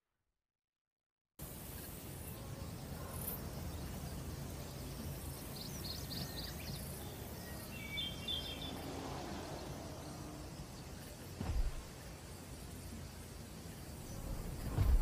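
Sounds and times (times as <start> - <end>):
low background noise: 1.4 - 15.0
songbird calls: 1.7 - 15.0.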